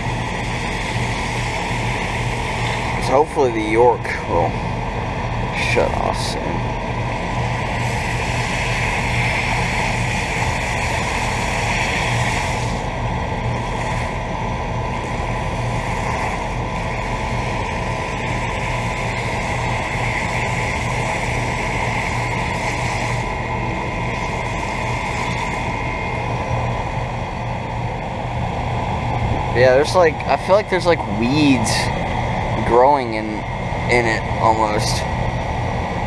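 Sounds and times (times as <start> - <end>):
compressor hum: 0.0 - 36.0
condenser fans rushing air: 0.0 - 36.0.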